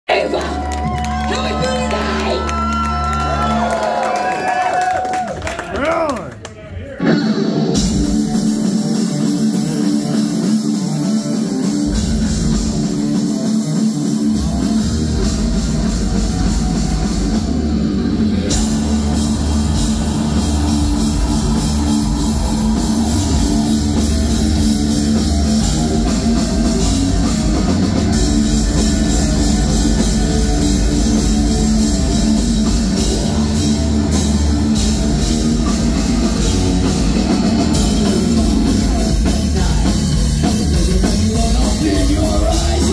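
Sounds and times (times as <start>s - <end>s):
heavy metal band playing live: 7.0s - 42.9s.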